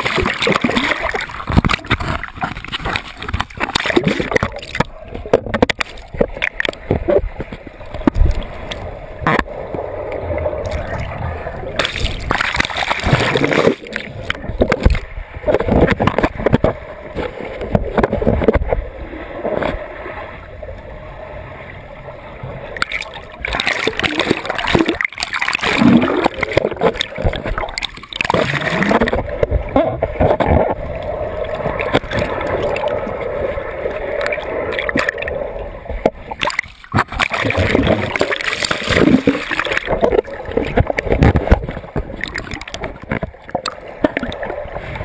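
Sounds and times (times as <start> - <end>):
water churning and splashing: 0.0 - 45.0.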